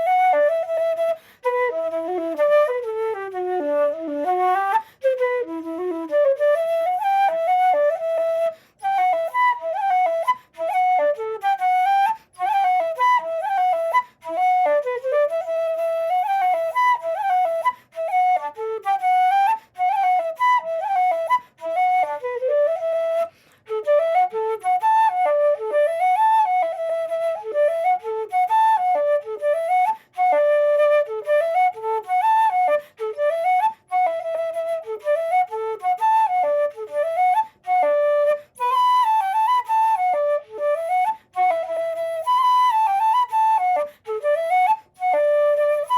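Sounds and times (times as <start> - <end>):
wooden flute playing lively tune: 0.0 - 45.9.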